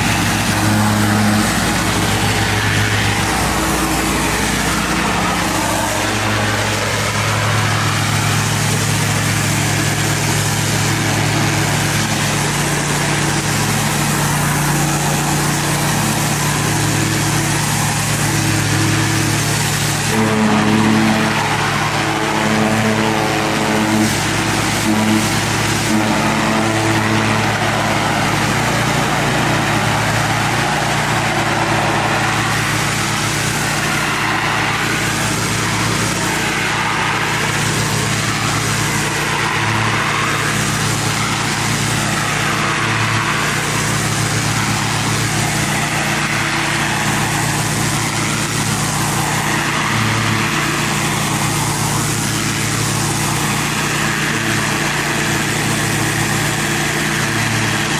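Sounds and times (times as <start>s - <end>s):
petrol engine running: 0.0s - 57.9s
water jet spraying concrete: 0.0s - 57.9s.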